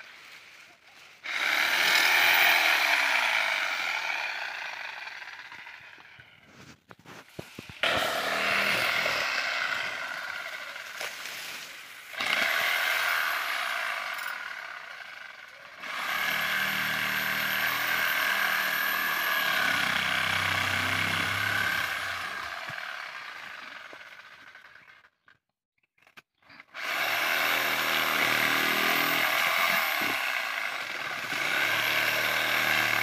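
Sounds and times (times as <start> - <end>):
power saw cutting wood: 1.2 - 25.2, 26.6 - 33.0.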